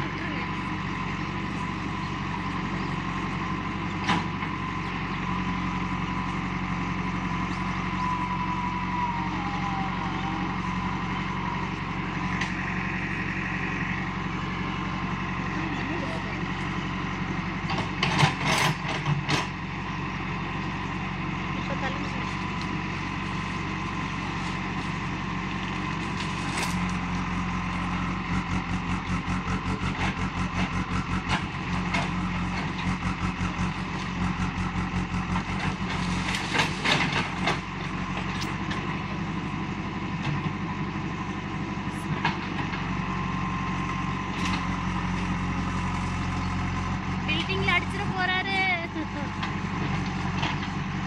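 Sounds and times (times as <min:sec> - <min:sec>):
diesel engine under load: 0:00.0 - 0:51.0.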